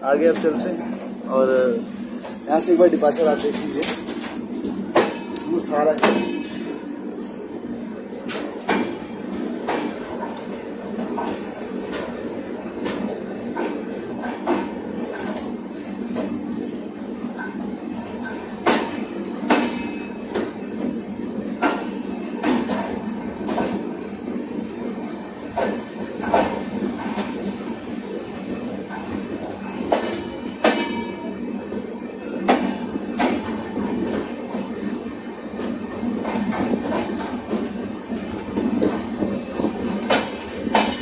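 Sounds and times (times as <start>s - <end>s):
train running rush: 0.0s - 41.0s.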